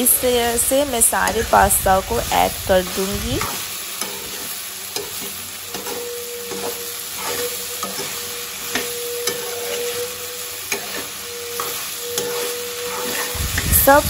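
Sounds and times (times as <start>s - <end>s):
food sizzling in oil: 0.0s - 14.0s
spatula scraping pan: 0.0s - 14.0s.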